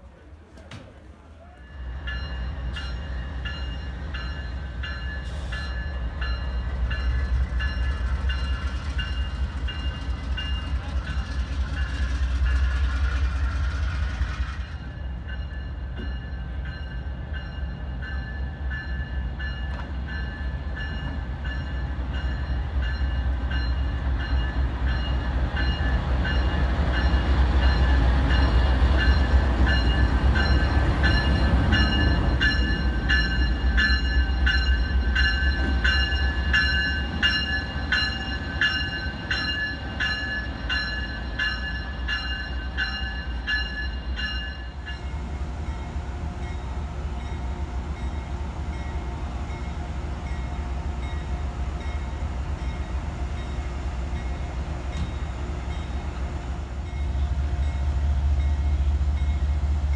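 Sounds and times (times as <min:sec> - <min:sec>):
locomotive bell ringing: 0:01.7 - 0:12.8, 0:14.6 - 0:56.2.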